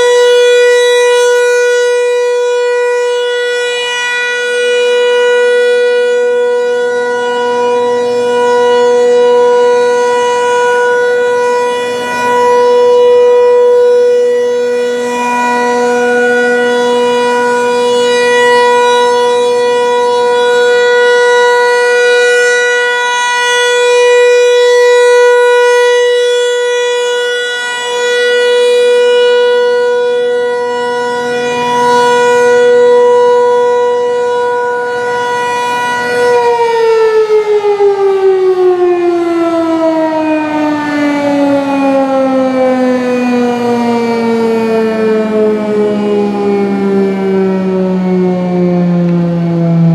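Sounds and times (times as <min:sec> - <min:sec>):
rotating tornado siren: 0:00.0 - 0:49.9.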